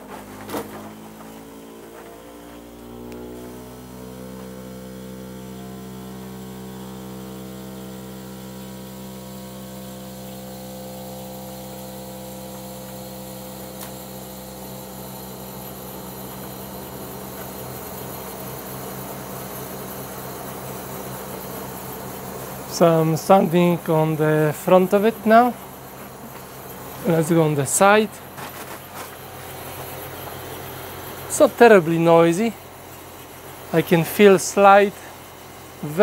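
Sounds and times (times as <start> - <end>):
air conditioning unit humming: 0.0 - 36.0
fan hiss: 0.0 - 36.0.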